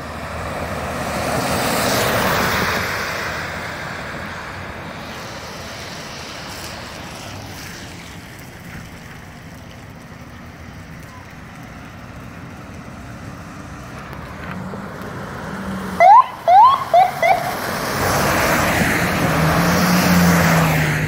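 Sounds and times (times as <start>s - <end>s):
vehicle tyres hissing on wet road: 0.0s - 21.0s.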